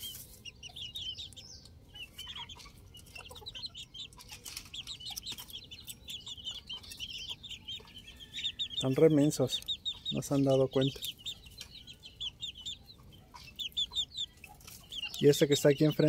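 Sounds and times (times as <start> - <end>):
hens peeping and chirping: 0.0 - 16.0.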